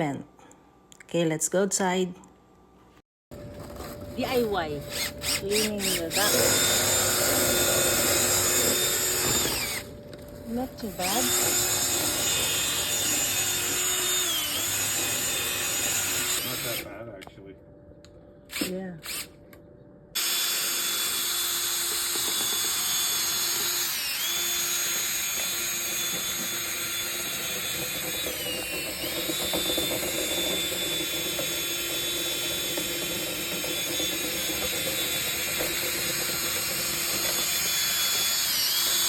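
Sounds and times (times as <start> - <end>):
power drill spinning brush: 3.6 - 9.9, 10.5 - 16.9, 20.2 - 39.0.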